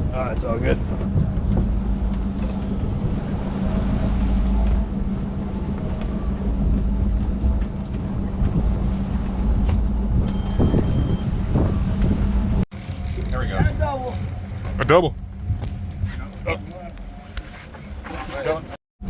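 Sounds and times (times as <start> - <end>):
wind on microphone: 0.0 - 17.1
boat engine droning: 0.8 - 10.6, 12.3 - 18.2.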